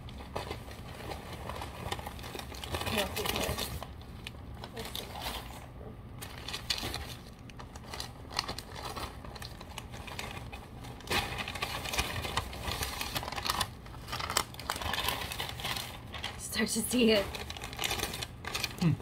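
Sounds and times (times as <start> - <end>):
paper crinkling and crumpling: 0.0 - 19.0.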